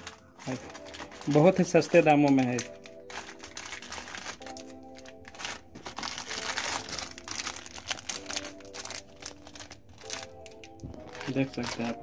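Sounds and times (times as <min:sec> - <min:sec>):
background music: 0:00.0 - 0:12.0
plastic packets crinkling: 0:00.0 - 0:12.0.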